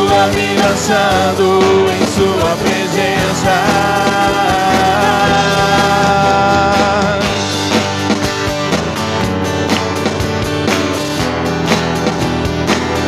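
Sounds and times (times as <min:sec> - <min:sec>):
acoustic guitar: 0:00.0 - 0:13.0
band playing steady beat: 0:00.0 - 0:13.0
keyboard: 0:00.0 - 0:13.0.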